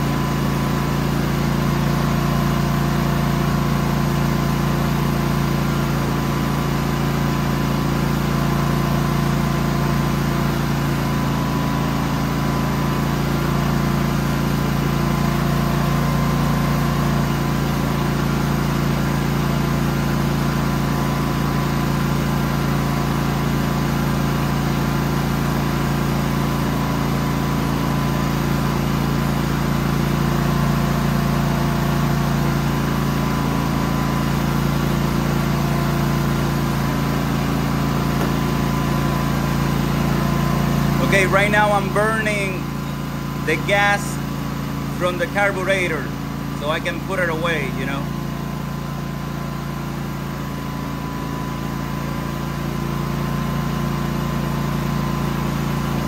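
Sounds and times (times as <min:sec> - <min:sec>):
generator engine hum: 0:00.0 - 0:56.0.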